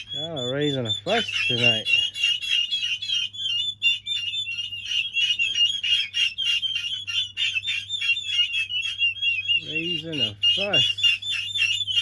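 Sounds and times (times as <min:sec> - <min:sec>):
turkey poults peeping: 0:00.0 - 0:12.0.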